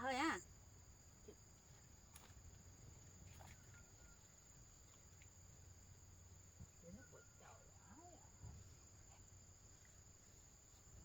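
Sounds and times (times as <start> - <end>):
faint high insect drone: 0.0 - 11.0.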